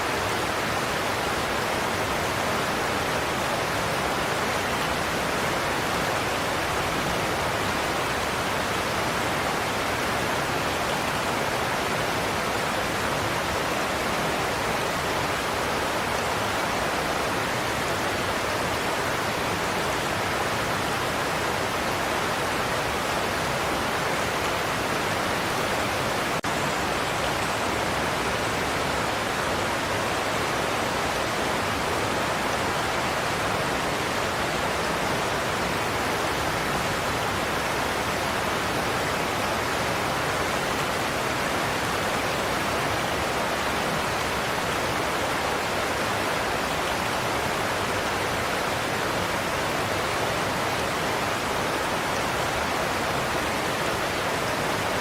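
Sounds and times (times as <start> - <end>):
waterfall roar: 0.0 - 55.0.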